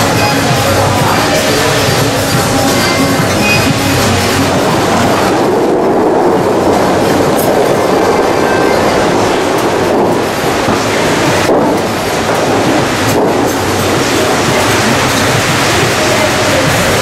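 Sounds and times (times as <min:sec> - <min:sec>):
fountain spray rushing roar: 0:00.0 - 0:17.0.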